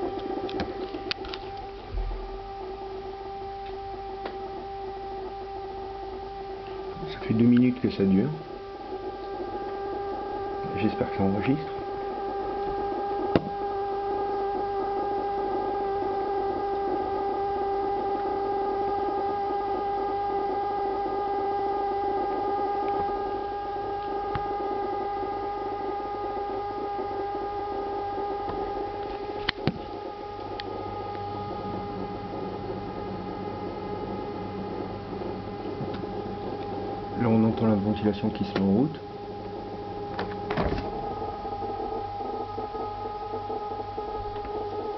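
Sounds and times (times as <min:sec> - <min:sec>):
refrigerator humming drone: 0:00.0 - 0:44.9.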